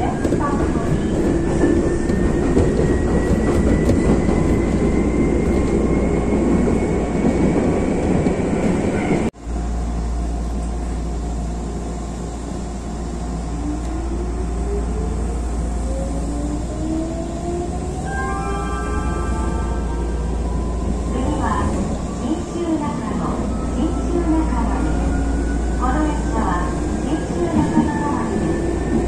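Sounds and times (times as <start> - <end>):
low hum of standing train: 0.0 - 29.0
train ride noise: 0.0 - 29.0.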